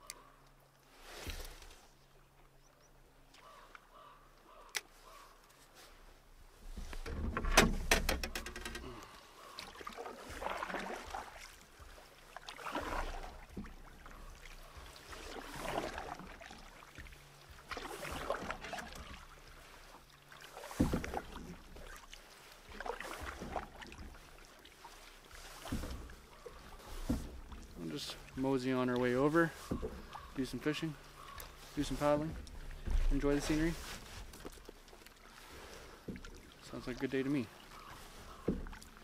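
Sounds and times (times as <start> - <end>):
paddle strokes through water: 0.1 - 2.5, 3.2 - 39.0.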